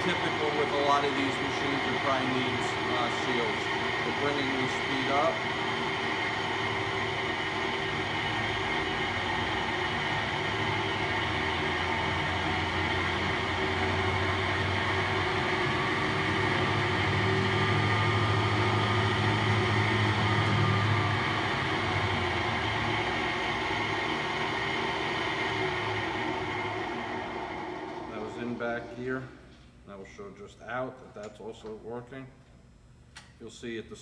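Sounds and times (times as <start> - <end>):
milling machine humming: 0.0 - 29.4
low hum: 0.0 - 29.6.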